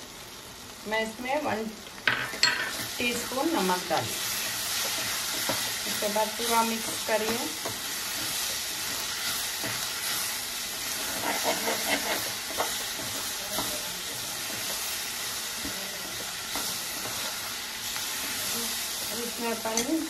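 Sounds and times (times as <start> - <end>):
onions sizzling in oil: 0.0 - 20.0
spoon stirring and scraping pan: 2.2 - 20.0.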